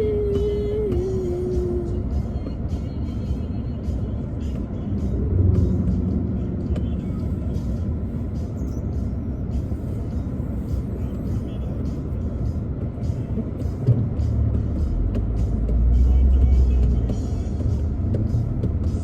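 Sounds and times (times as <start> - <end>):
car engine and road noise: 0.0 - 19.0
faint music: 0.0 - 19.0.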